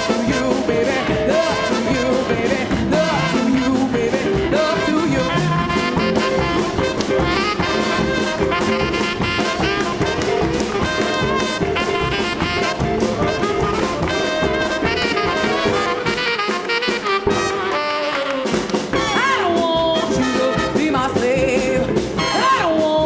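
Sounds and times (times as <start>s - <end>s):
bass and drums: 0.0s - 23.0s
saxophone and brass horns: 0.0s - 23.0s.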